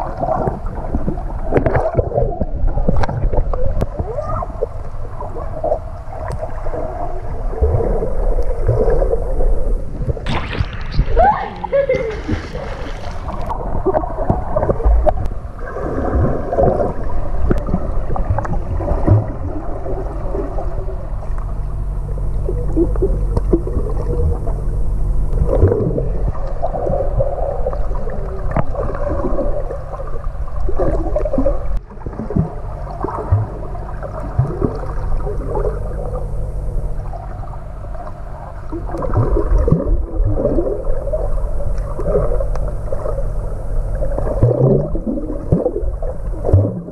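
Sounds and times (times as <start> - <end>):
underwater bubbling and gurgling: 0.0 - 46.9
underwater low rumble: 0.0 - 46.9.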